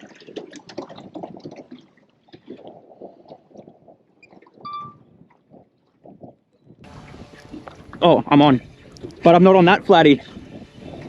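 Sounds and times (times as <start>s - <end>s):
shallow water sloshing: 0.0s - 11.0s.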